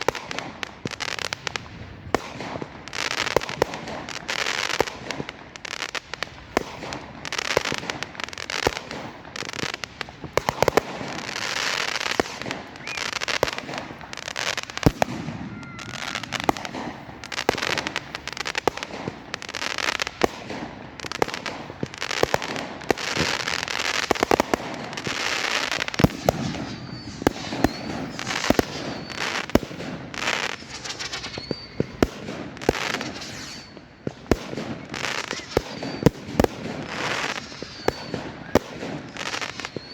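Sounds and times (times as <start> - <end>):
faint firework whistles: 0.0 - 39.9
fireworks bangs: 0.0 - 39.9
fireworks crackling and hissing: 0.0 - 39.9.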